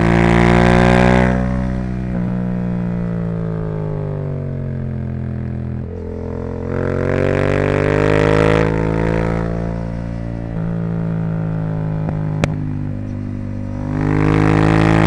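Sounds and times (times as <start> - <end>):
motorcycle engine and exhaust: 0.0 - 15.0.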